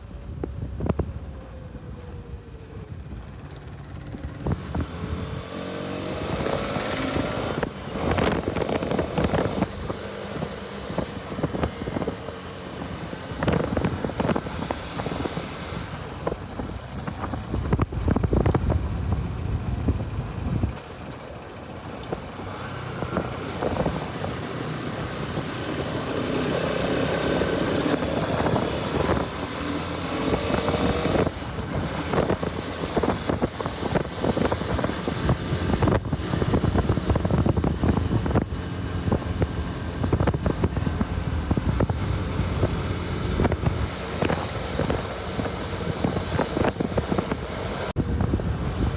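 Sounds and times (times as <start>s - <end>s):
wind noise on microphone: 0.0s - 48.9s
motorcycle engine accelerating: 0.1s - 48.9s.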